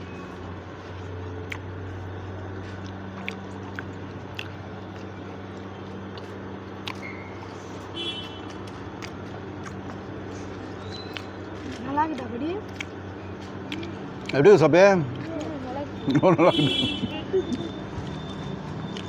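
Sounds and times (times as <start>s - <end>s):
steady low hum: 0.0s - 19.0s
crunchy chewing: 0.3s - 19.0s.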